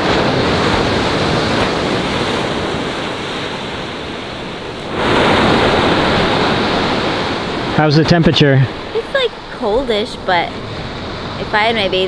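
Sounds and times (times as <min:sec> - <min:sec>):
surf breaking on sandy beach: 0:00.0 - 0:12.0.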